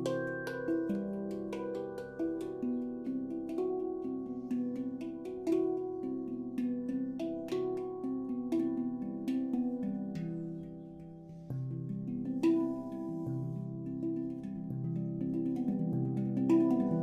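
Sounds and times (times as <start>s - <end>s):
handpan notes played by hand: 0.0s - 17.0s.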